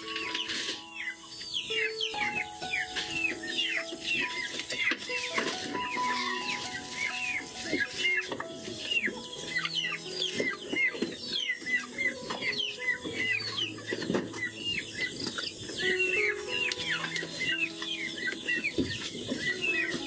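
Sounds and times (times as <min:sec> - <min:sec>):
chickens clucking and cheeping: 0:00.0 - 0:20.0.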